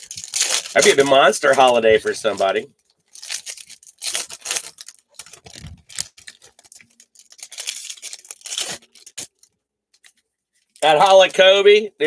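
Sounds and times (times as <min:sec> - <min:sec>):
card wrappers tearing and crinkling: 0:00.0 - 0:11.3.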